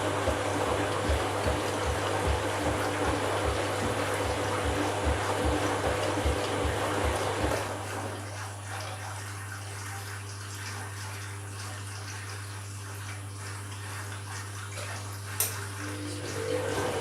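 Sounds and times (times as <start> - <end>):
water rushing in washing machine: 0.0 - 17.0.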